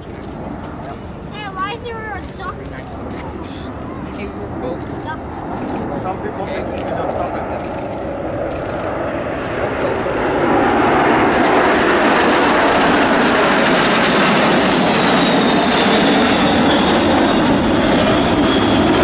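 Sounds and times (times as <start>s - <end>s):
high jet whine: 0.0s - 19.0s
jet engines rushing overhead: 0.0s - 19.0s.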